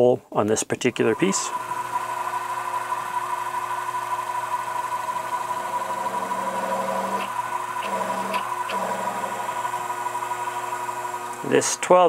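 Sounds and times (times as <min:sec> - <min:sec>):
mill motor whine: 0:00.8 - 0:12.0.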